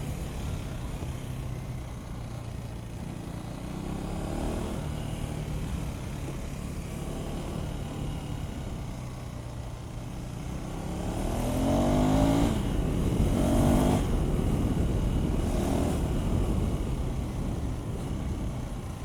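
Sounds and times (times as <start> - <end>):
motorcycle engine accelerating: 0.0 - 19.0
wind and road noise: 0.0 - 19.0.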